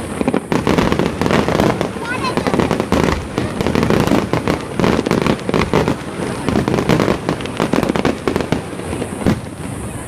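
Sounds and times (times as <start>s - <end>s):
fireworks rapid overlapping bangs: 0.0s - 10.0s.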